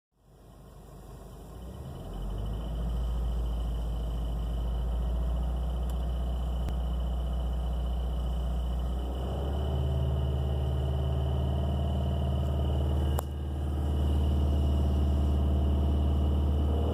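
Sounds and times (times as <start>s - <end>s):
car engine idling: 0.2s - 16.9s
engine ticking noise: 0.4s - 16.9s.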